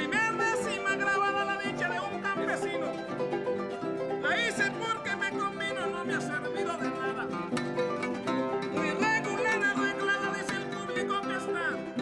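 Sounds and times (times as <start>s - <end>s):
person singing: 0.0s - 12.0s
plucked string ensemble: 0.0s - 12.0s.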